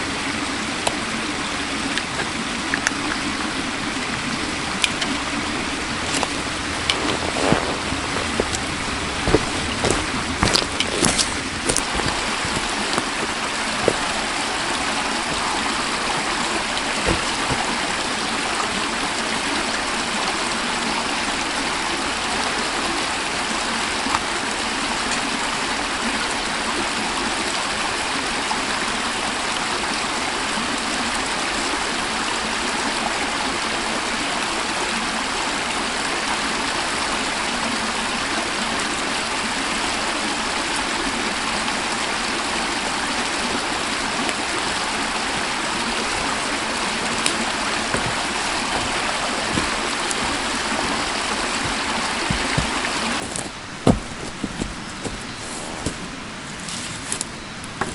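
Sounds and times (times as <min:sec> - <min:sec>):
stream rushing: 0:00.0 - 0:57.9.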